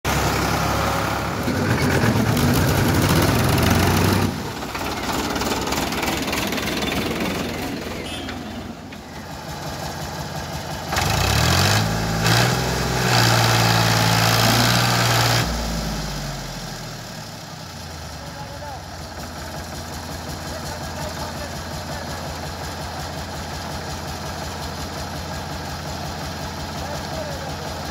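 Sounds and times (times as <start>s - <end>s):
tractor engine idling: 0.0s - 27.9s
tractor engine revving: 0.0s - 27.9s.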